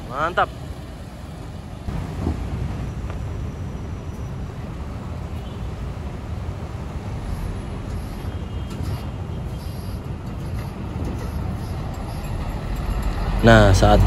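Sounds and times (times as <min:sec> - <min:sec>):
bus diesel engine running: 0:00.0 - 0:14.0
road traffic: 0:00.0 - 0:14.0.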